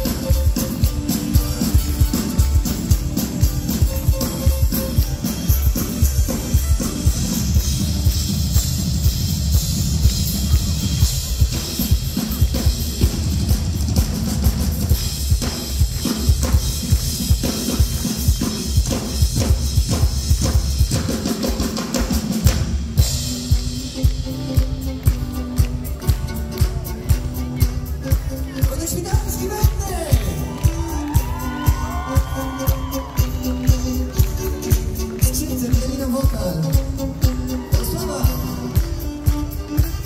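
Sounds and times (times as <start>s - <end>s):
drum kit beat: 0.0s - 40.0s
live band playing: 0.0s - 40.0s.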